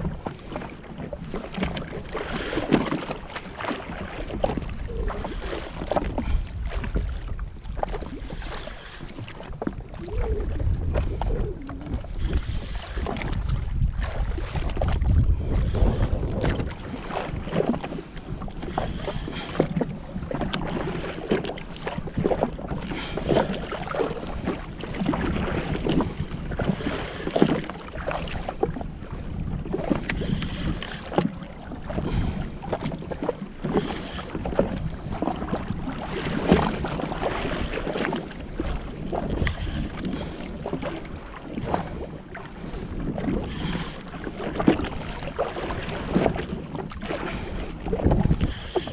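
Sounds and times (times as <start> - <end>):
water slapping against hull: 0.0 - 48.9
wind buffeting microphone: 0.0 - 48.9.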